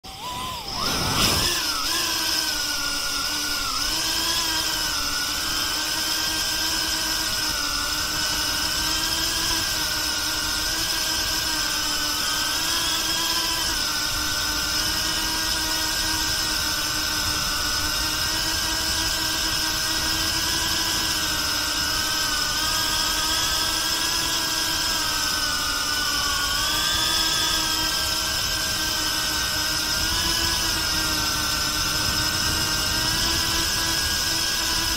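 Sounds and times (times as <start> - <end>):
drone propellers buzzing: 0.0 - 34.9.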